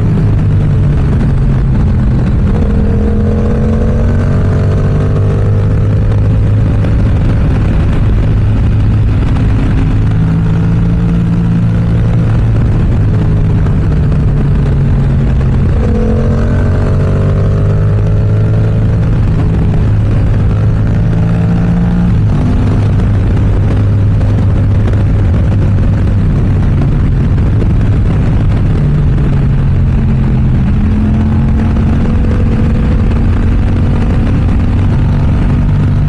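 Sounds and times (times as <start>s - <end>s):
motorcycle engine at road speed: 0.0s - 36.0s.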